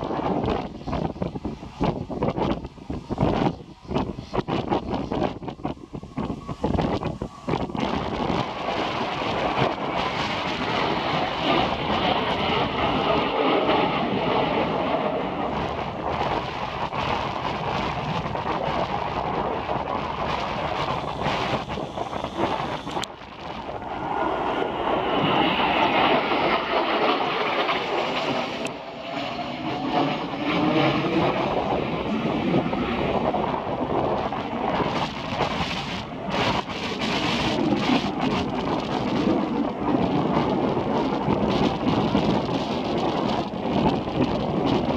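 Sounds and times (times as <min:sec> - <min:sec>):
jet aircraft flying: 0:00.0 - 0:44.9
wind buffeting microphone: 0:00.0 - 0:44.9.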